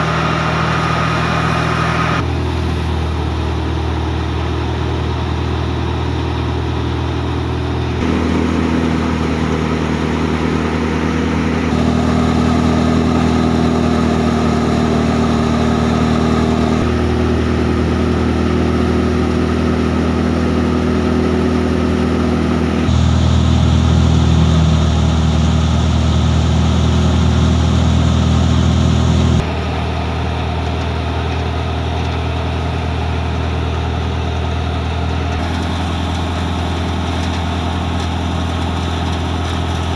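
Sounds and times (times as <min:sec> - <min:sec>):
tractor engine driving thresher: 0:00.0 - 0:39.9.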